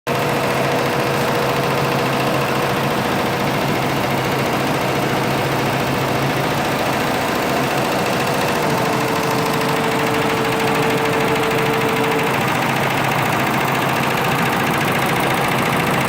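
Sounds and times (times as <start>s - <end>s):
embroidery machine stitching: 0.1s - 16.0s.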